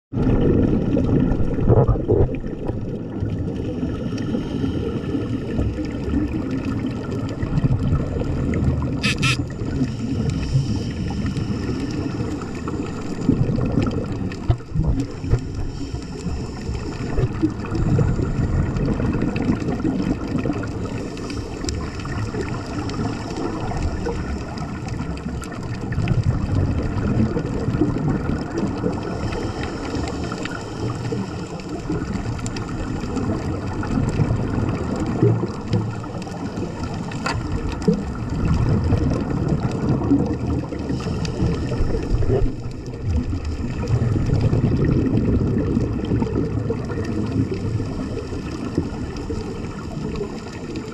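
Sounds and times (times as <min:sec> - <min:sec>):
muffled underwater rumble: 0:00.1 - 0:50.9.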